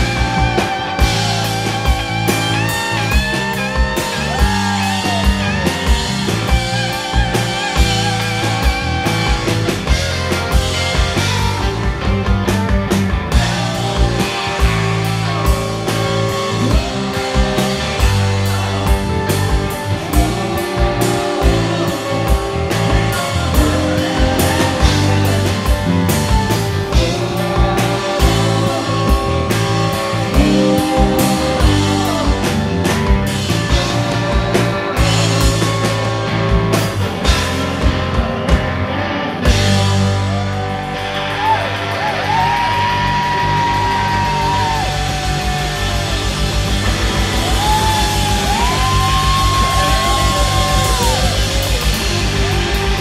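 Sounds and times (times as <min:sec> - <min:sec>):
live blues-rock band: 0:00.0 - 0:53.0.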